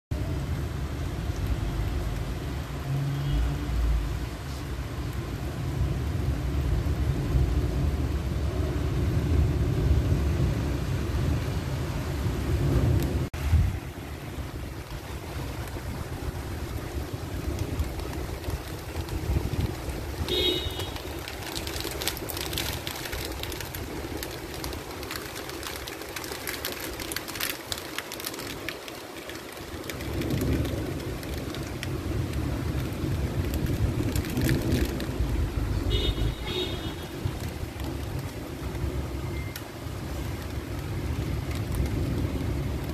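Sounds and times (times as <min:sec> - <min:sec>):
heavy rain: 0:00.1 - 0:42.9.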